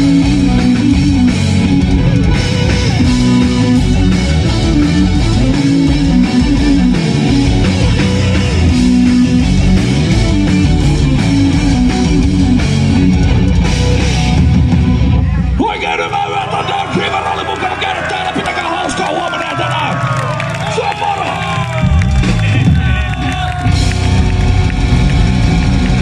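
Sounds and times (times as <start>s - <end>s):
heavy metal band playing: 0.0s - 26.0s.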